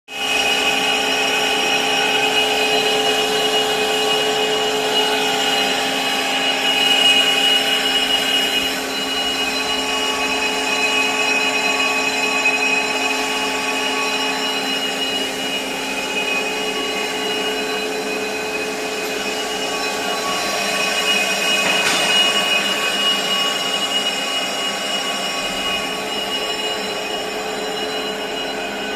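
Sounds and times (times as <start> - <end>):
brake lathe machine whine: 0.1 - 28.9.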